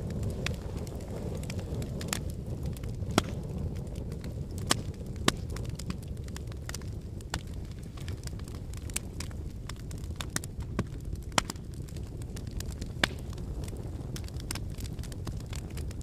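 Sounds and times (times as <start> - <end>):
fire crackling: 0.0 - 16.0
fire popping and snapping: 0.0 - 16.0.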